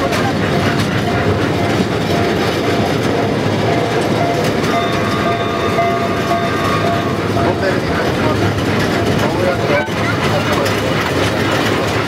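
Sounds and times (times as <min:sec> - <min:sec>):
train wheels clattering on rails: 0:00.0 - 0:12.0.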